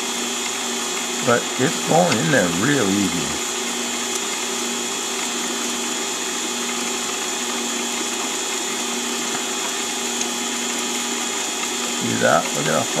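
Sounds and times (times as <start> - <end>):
lathe humming and whining: 0.0 - 13.0.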